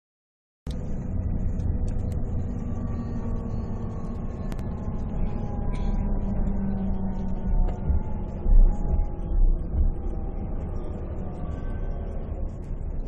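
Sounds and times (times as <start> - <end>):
diesel engine low rumble: 0.7 - 13.0
faint whine falling in pitch: 0.7 - 13.0.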